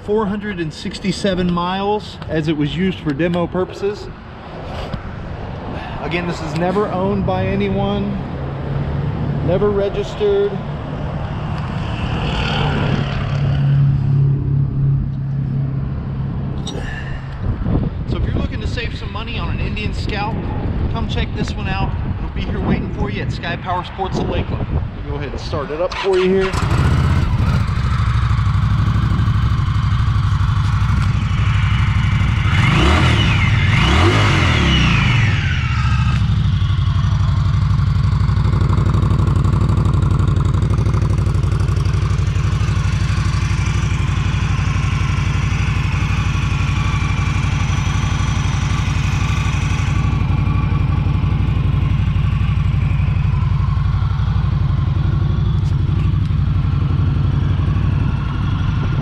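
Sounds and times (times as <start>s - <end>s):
motorcycle engine revving and idling: 0.0s - 4.4s, 6.1s - 16.8s, 25.2s - 59.0s.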